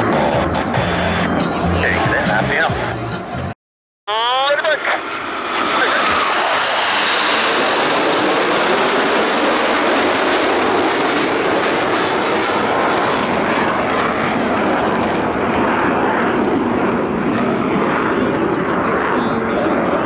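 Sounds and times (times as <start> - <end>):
jet engines roaring: 0.0 - 3.5, 4.1 - 20.0.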